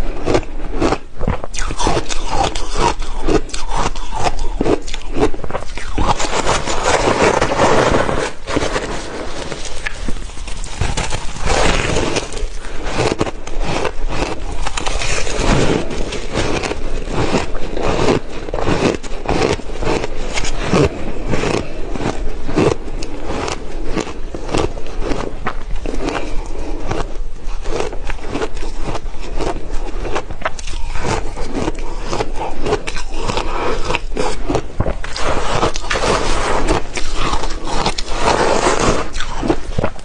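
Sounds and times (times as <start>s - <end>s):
crunching ice being chewed: 0.0s - 40.0s.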